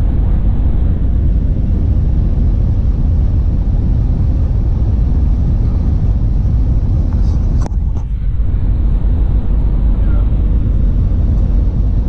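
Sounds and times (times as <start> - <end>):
road and engine rumble in cab: 0.0 - 12.0.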